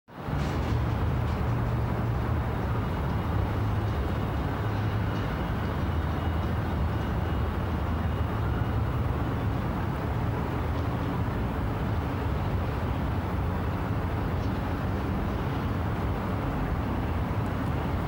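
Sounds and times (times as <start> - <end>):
low engine drone: 0.2 - 18.0.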